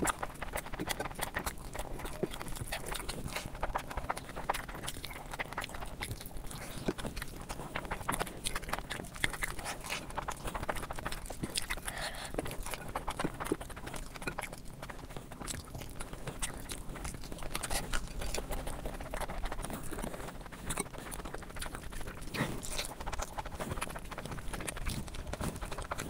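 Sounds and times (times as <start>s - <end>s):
chewing and biting: 0.0s - 26.0s.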